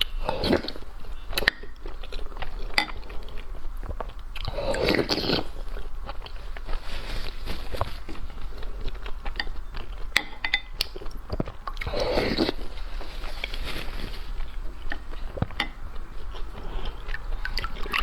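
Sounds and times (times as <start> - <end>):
person chewing crunchy food: 0.0 - 18.0
slurping: 0.0 - 18.0.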